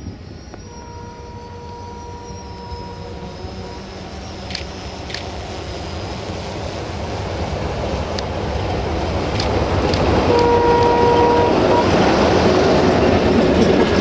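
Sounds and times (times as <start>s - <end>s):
rail clicks: 0.0s - 14.0s
train engine and wheels rumbling: 0.0s - 14.0s.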